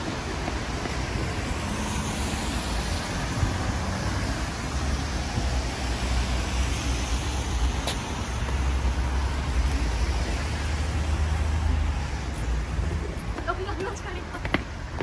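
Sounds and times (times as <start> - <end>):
traffic on wet road: 0.0 - 15.0.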